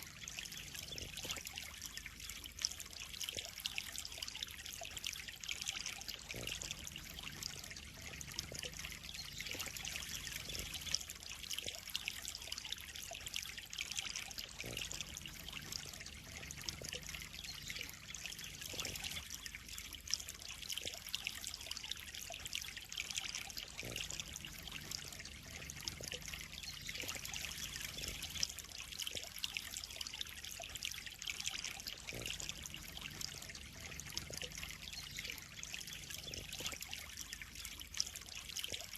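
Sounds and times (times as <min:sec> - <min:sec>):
low steady hum: 0:00.0 - 0:38.9
water splashing into pond: 0:00.0 - 0:38.9.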